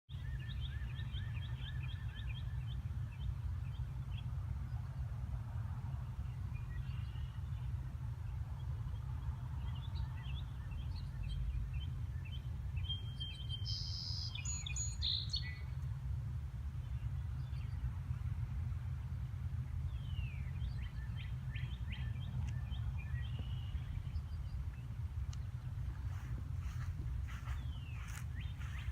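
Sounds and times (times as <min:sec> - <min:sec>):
birds chirping: 0:00.1 - 0:05.1, 0:05.9 - 0:28.9
low rumble: 0:00.2 - 0:28.9.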